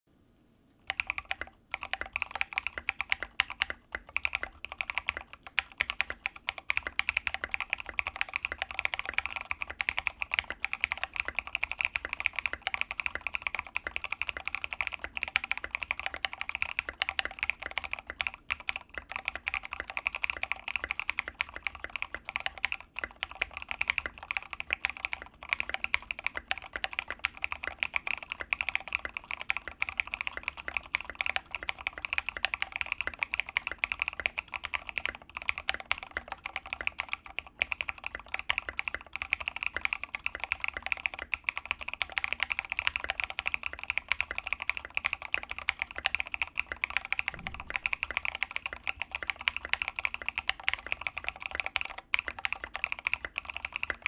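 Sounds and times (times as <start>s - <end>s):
fast mechanical keyboard typing: 0.9s - 54.0s.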